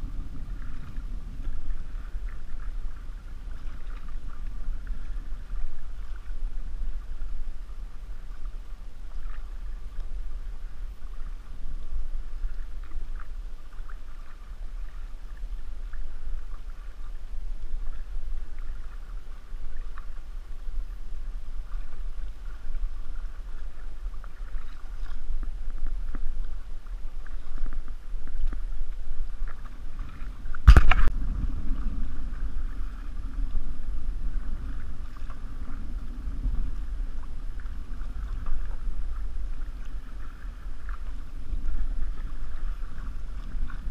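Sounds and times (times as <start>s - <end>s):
low rumble: 0.0s - 43.9s
water splashing against hull: 0.0s - 43.9s.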